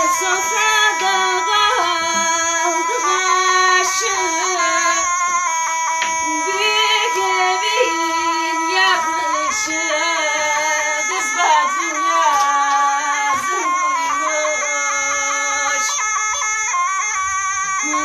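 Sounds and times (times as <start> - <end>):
person singing ornamented melody: 0.0 - 16.6, 17.8 - 18.0
sustained instrumental tones: 0.0 - 18.0.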